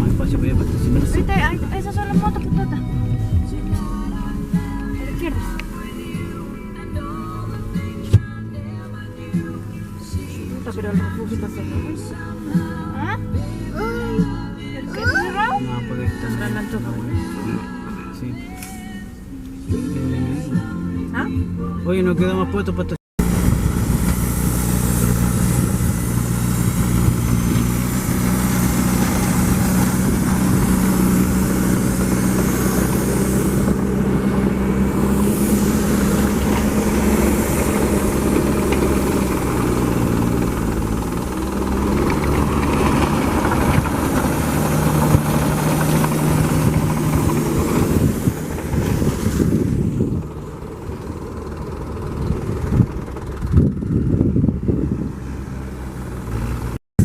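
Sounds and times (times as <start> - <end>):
vehicle engine running: 0.0 - 56.8
road and wind rumble: 0.0 - 57.0.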